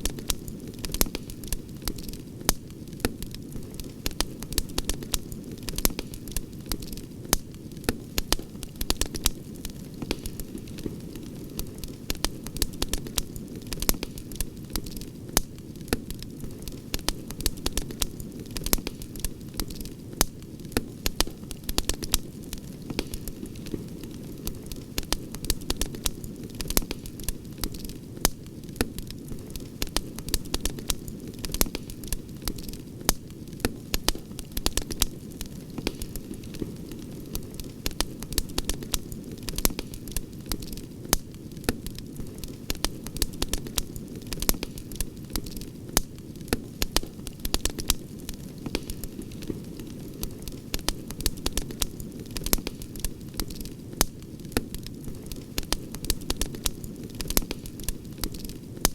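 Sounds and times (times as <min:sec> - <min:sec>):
campfire crackling and popping: 0:00.0 - 0:58.9
low rush of flames: 0:00.0 - 0:58.9.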